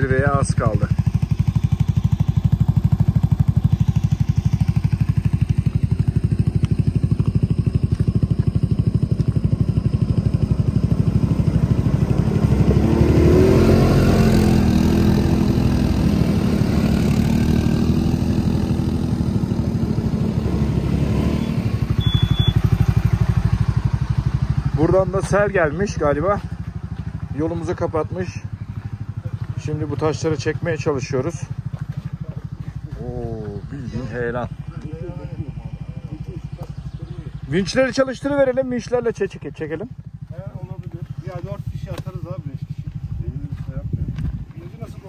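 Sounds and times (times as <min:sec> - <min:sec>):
atv engine running: 0:00.0 - 0:45.0.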